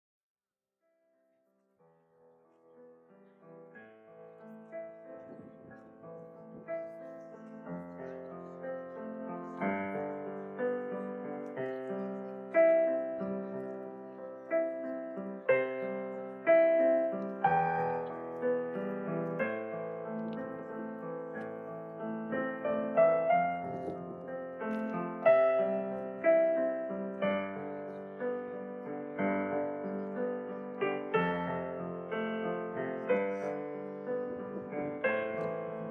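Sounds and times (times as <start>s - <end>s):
solo piano music: 1.8s - 35.9s.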